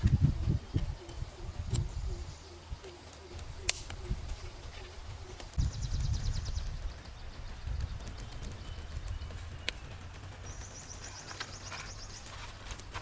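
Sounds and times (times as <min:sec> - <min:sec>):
bird trilling: 0:00.4 - 0:12.6.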